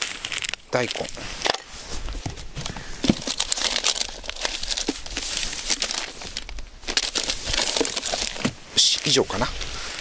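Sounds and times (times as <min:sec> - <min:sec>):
plastic bags crinkling: 0:00.0 - 0:01.6, 0:02.3 - 0:09.2.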